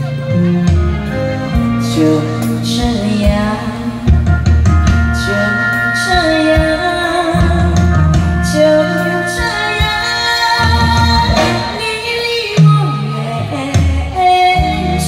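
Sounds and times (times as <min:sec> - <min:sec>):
amplified backing music: 0:00.0 - 0:15.0
woman singing a slow ballad: 0:00.0 - 0:15.0.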